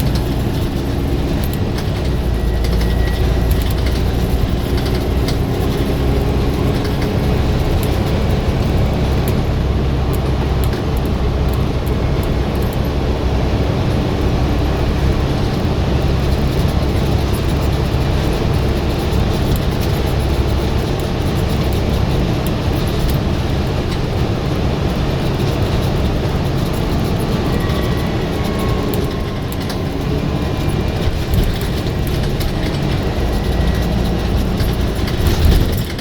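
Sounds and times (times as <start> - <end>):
bus engine droning: 0.0 - 36.0
road noise: 0.0 - 36.0.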